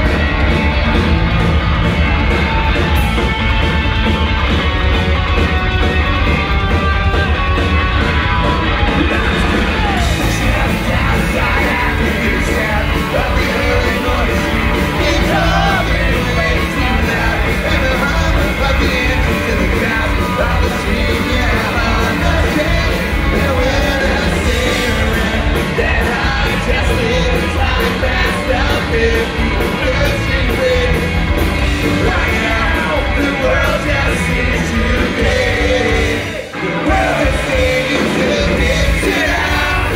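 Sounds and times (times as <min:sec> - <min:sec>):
live ska-punk band playing: 0:00.0 - 0:39.9
voices singing and yelling: 0:00.0 - 0:39.9.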